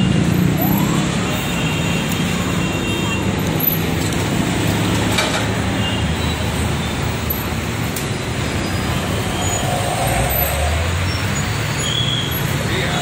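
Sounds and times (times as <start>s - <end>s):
slow traffic engines running: 0.0s - 13.0s.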